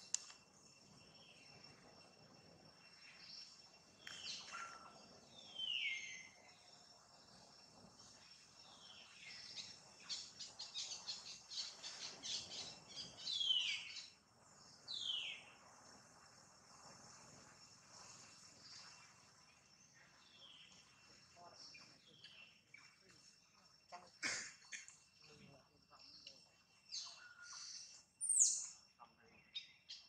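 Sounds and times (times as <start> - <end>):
high insect whine: 0.0 - 30.0.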